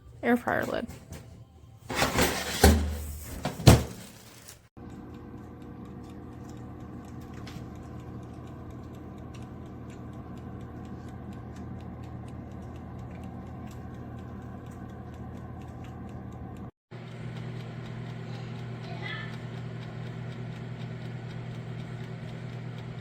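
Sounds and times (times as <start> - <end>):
air fryer oven humming: 0.0 - 23.0.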